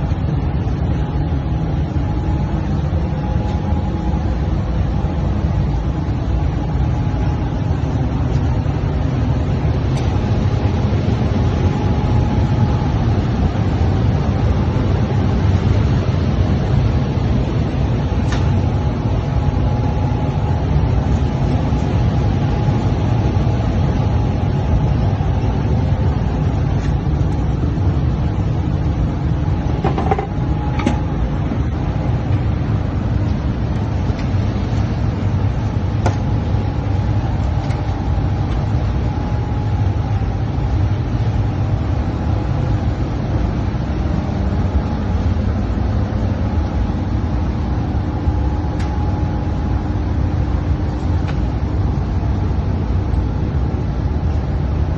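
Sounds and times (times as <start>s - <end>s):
faint whine: 0.0s - 54.9s
low machine hum: 0.0s - 54.9s.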